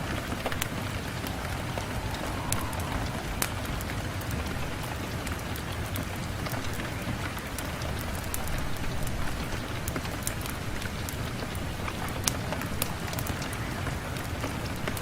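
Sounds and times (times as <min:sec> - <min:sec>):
rain on a window: 0:00.0 - 0:15.0
raindrop ticks: 0:00.0 - 0:15.0.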